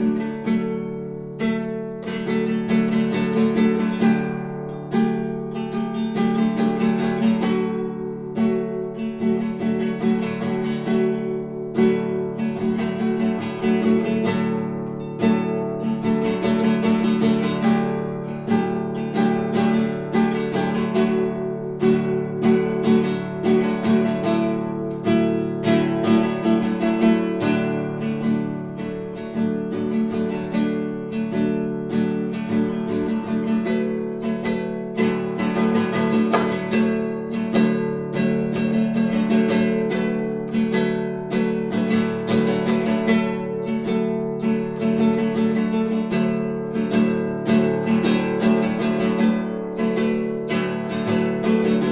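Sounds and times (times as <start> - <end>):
classical guitar playing: 0.0 - 51.9.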